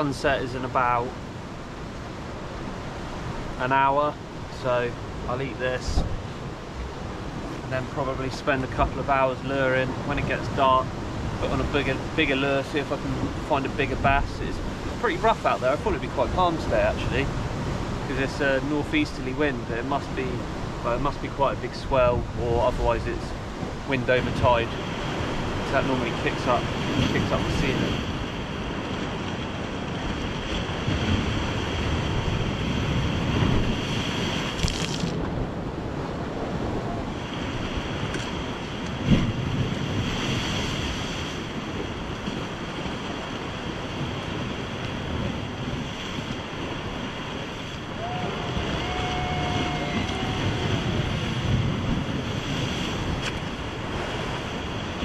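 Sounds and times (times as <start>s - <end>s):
rough sea washing over rocks: 0.0s - 55.0s
wind buffeting microphone: 4.2s - 55.0s.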